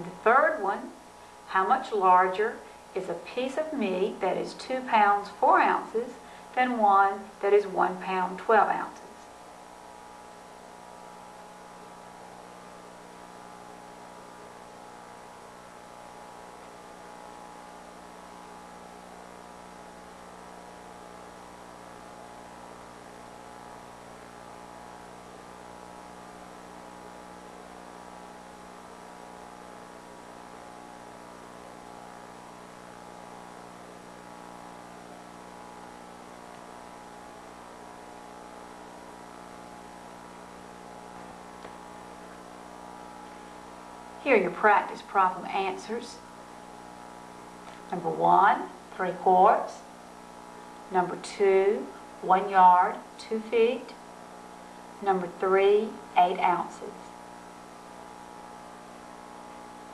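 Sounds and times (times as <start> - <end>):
background hiss: 0.0 - 59.9
electrical mains hum: 0.0 - 59.9.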